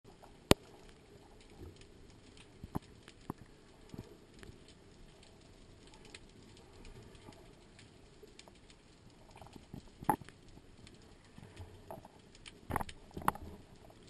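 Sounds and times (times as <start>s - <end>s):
underwater clicks and snaps: 0.1s - 14.0s.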